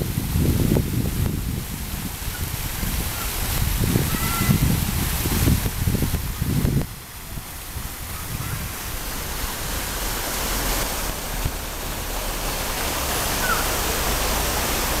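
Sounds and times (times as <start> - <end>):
fountain jets spraying water: 0.0 - 15.0.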